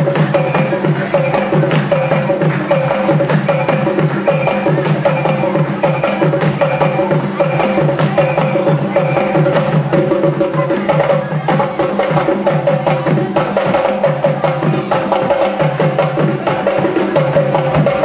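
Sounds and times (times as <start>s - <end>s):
drums playing fast rhythm: 0.0s - 18.0s.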